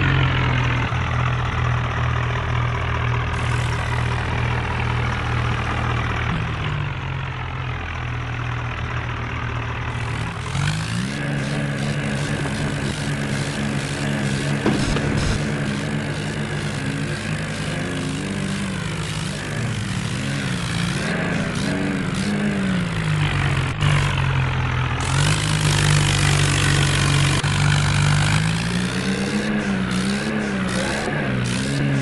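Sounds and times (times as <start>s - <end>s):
tractor engine under load: 0.0s - 32.0s.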